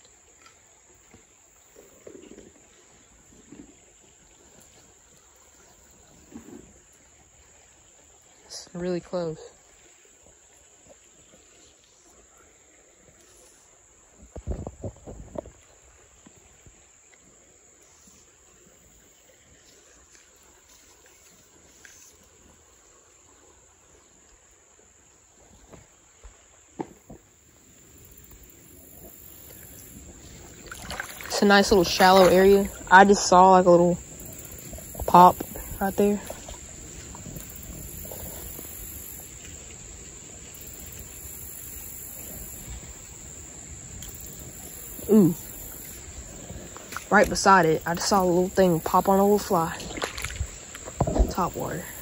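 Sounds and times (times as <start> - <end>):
creek water rushing: 0.0 - 52.0
faint steady outdoor hiss: 0.0 - 52.0.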